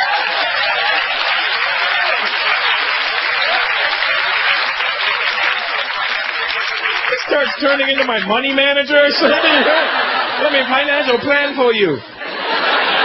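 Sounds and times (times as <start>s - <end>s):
audience applauding: 0.0s - 13.0s
audience laughing: 0.0s - 13.0s.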